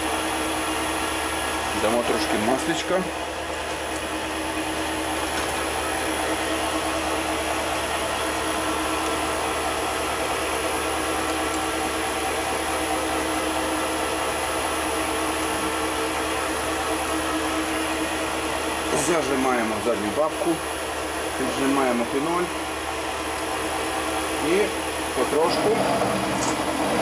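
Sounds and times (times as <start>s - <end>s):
lathe motor humming with whine: 0.0s - 27.0s.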